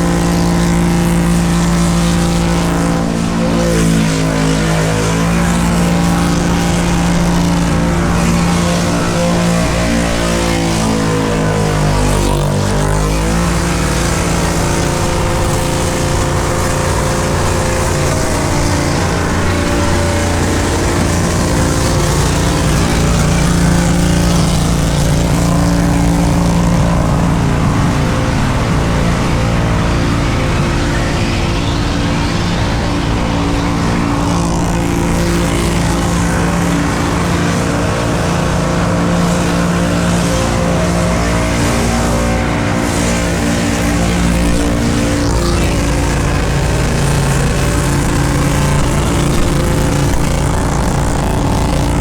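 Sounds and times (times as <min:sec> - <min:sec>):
car engine at high revs: 0:00.0 - 0:52.0.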